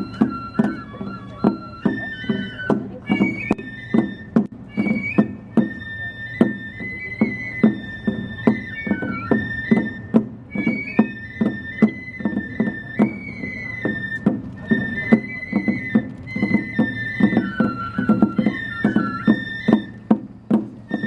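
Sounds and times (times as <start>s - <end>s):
drum and percussion beat: 0.0s - 21.0s.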